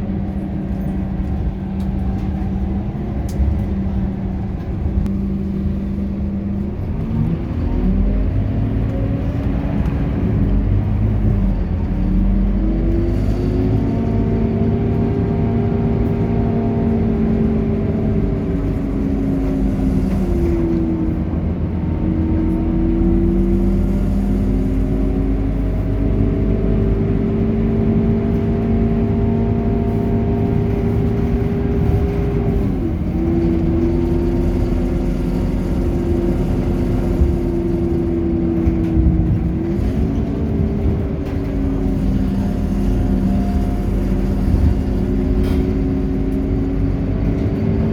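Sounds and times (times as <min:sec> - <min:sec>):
bus diesel engine drone: 0:00.0 - 0:47.9.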